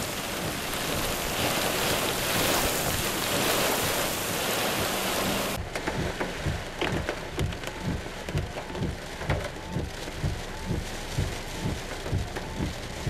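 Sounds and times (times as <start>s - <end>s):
heavy rain hissing: 0.0s - 13.0s
low thumps: 0.0s - 13.0s.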